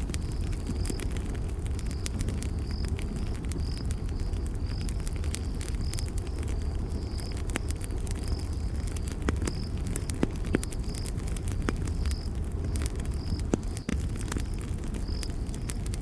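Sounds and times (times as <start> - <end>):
campfire crackling and popping: 0.0 - 16.0
insect chirping: 0.1 - 7.4, 8.2 - 15.9.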